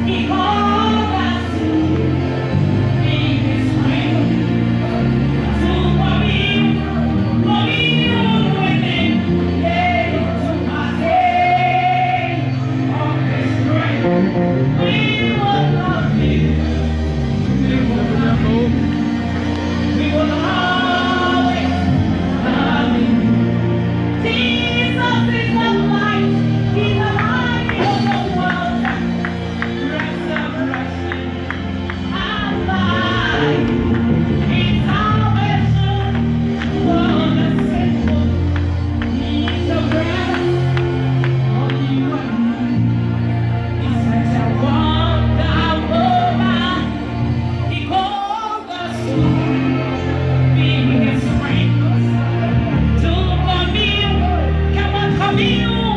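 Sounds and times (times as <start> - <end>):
bass line: 0.0 - 55.9
gospel choir singing: 0.0 - 55.9
live band accompaniment: 0.0 - 55.9.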